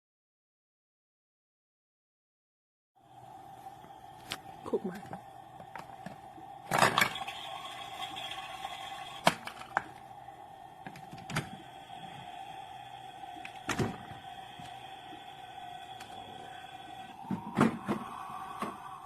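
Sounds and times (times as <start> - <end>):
steady hum: 3.0 - 19.0.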